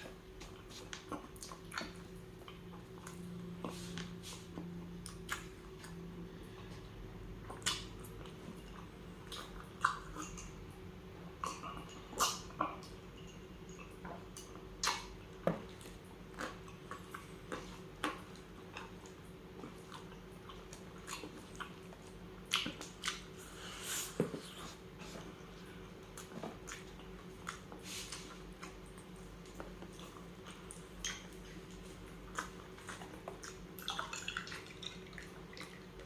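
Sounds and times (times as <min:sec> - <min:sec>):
person chewing and smacking lips: 0:00.0 - 0:10.6, 0:11.4 - 0:36.0.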